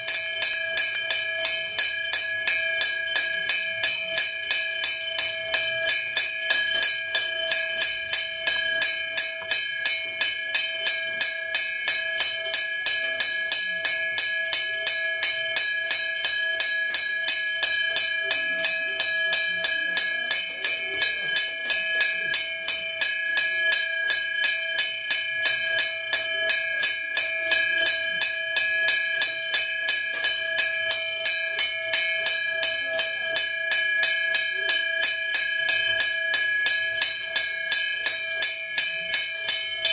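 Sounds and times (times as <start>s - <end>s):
bell ringing: 0.0s - 39.9s.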